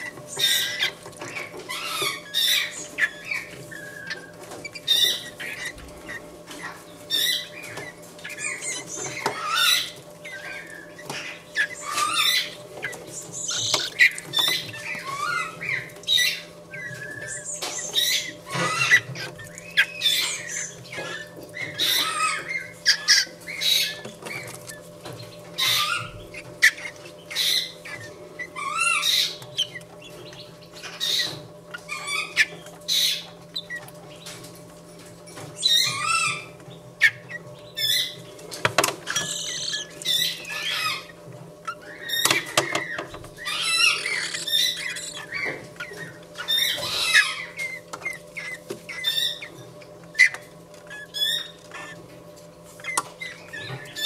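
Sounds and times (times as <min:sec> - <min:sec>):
fledgling birds begging calls: 0:00.0 - 0:54.0
steady low hum: 0:00.0 - 0:54.0.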